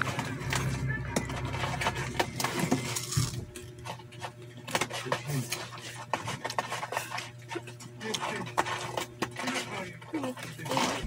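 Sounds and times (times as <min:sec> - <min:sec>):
steady low hum: 0:00.0 - 0:11.0
cat scratching cardboard box: 0:01.2 - 0:11.0.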